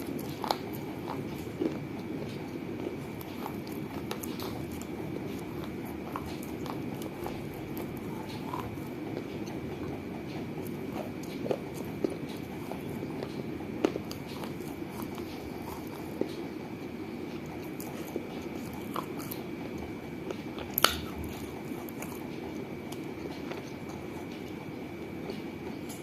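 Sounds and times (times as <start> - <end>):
chewing clay with sharp cracks: 0.0 - 26.0.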